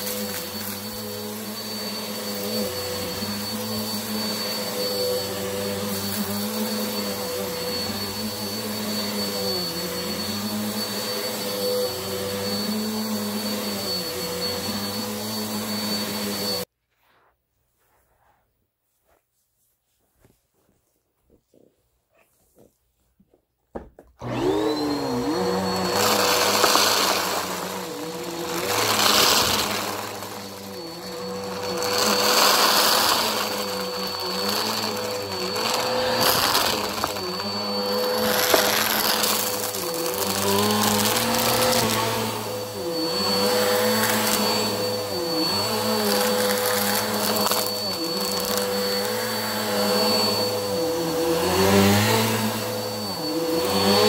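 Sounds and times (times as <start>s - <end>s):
vacuum cleaner running: 0.0s - 16.7s, 24.1s - 54.0s.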